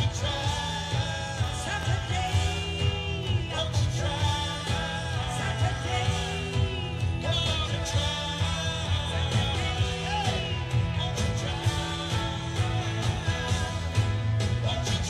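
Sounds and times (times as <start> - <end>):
lead vocal singing: 0.0 - 15.0
rock band playing live: 0.0 - 15.0.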